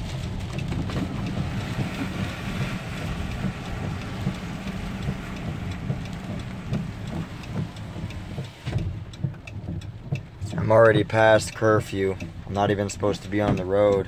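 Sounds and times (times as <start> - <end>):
engine and road noise rumble: 0.0 - 14.0
heavy rain on car roof: 0.0 - 14.0.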